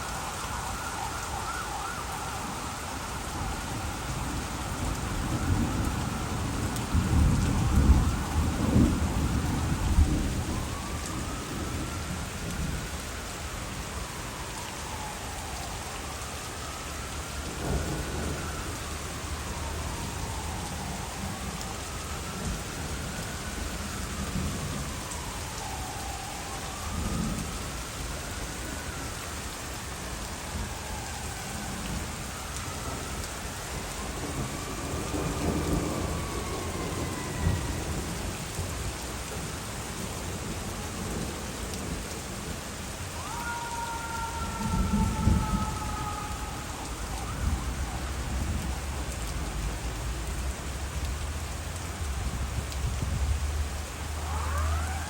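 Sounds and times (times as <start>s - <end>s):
thunder rumbling: 0.0s - 13.0s, 17.3s - 29.1s, 30.1s - 55.0s
siren wailing: 0.0s - 51.2s, 51.8s - 55.0s
heavy rain pouring: 0.0s - 55.0s.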